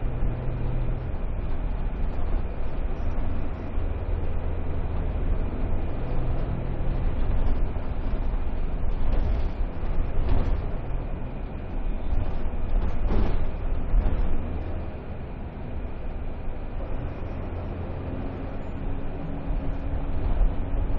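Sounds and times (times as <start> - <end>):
vehicle engine and road rumble: 0.0 - 20.9.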